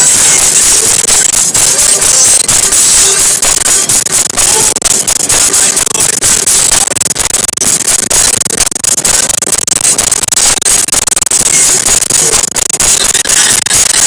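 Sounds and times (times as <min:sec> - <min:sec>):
static-like crackling hiss: 0:00.0 - 0:14.0.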